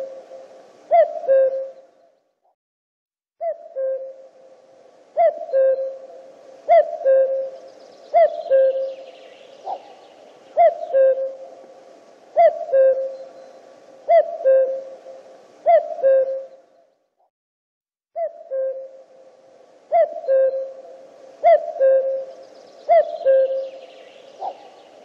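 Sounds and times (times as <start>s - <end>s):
cuckoo calling: 0.0s - 2.1s, 3.4s - 16.8s, 18.2s - 19.3s, 19.9s - 25.0s.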